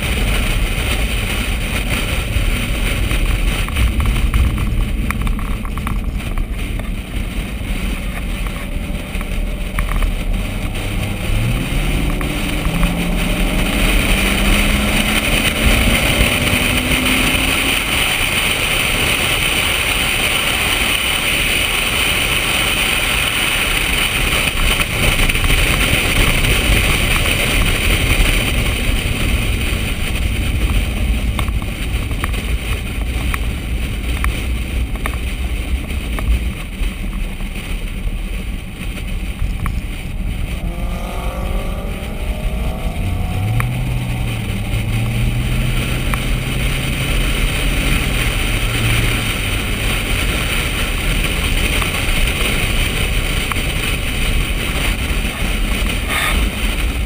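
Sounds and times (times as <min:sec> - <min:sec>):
car engine droning: 0:00.0 - 0:57.0
wind and road rush: 0:00.0 - 0:57.0.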